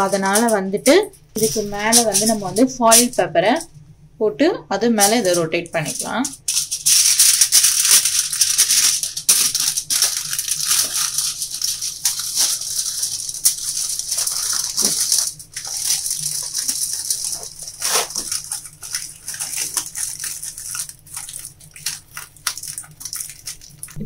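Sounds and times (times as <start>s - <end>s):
aluminium foil crinkling: 0.0s - 3.7s, 5.0s - 24.0s.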